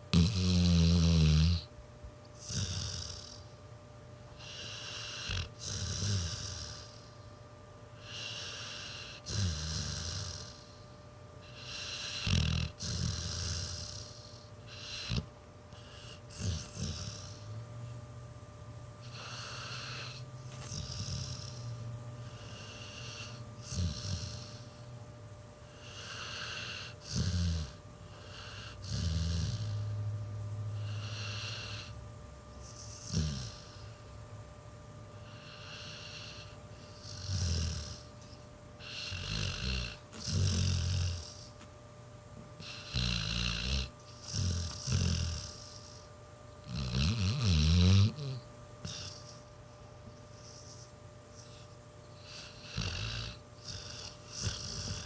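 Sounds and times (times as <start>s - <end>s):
dog snoring: 0.0s - 1.7s, 2.3s - 3.6s, 4.3s - 7.2s, 8.0s - 18.0s, 18.9s - 24.9s, 25.5s - 34.3s, 35.1s - 41.7s, 42.5s - 55.0s
dog snorts: 0.1s - 1.7s, 2.4s - 3.5s, 4.4s - 7.2s, 8.0s - 10.8s, 11.4s - 17.6s, 19.0s - 24.9s, 25.7s - 30.0s, 30.7s - 32.0s, 32.6s - 34.2s, 35.2s - 41.7s, 42.6s - 55.0s.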